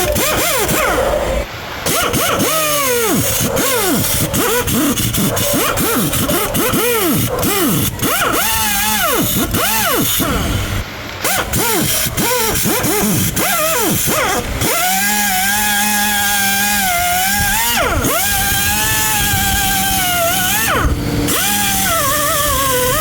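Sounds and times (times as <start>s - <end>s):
power tool motor whining: 0.0s - 23.0s.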